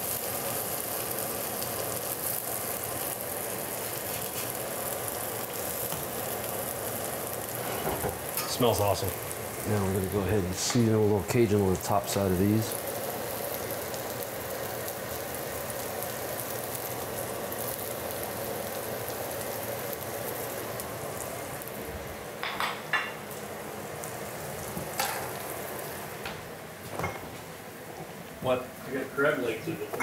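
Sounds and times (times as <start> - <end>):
potatoes sizzling in a skillet: 0.0 - 30.0.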